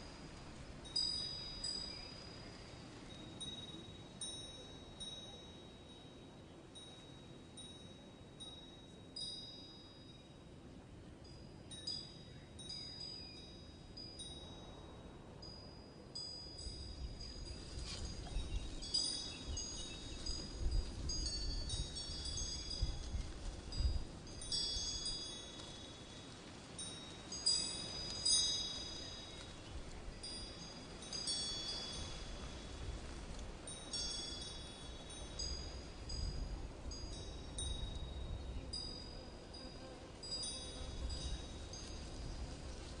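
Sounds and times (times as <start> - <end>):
wind chimes tinkling: 0.0 - 10.6, 11.2 - 43.0.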